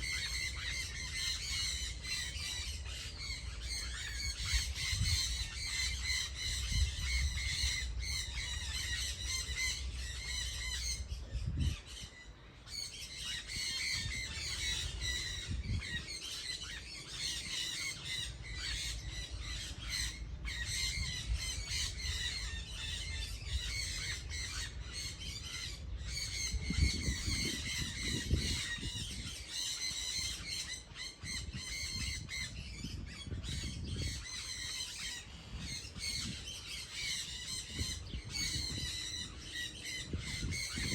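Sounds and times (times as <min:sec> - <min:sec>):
flock of birds squawking: 0:00.0 - 0:40.9.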